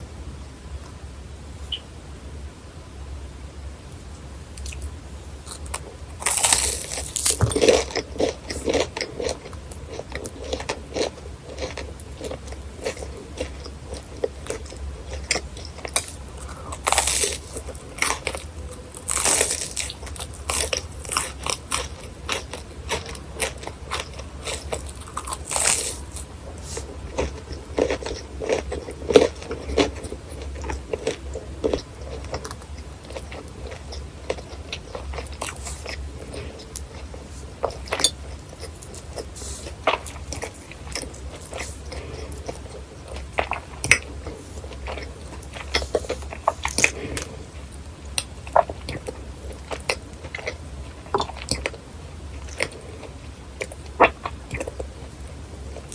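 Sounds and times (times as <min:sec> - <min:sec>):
faint low hum: 0:00.0 - 0:55.9
crunching bites and chewing: 0:04.6 - 0:55.0.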